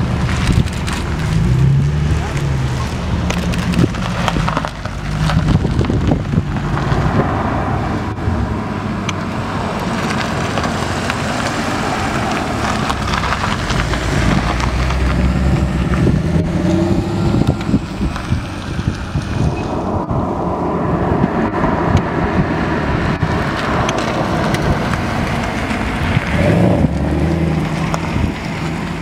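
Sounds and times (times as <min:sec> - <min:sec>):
sports car engines driving past: 0:00.0 - 0:29.0
wind buffeting microphone: 0:00.0 - 0:29.0.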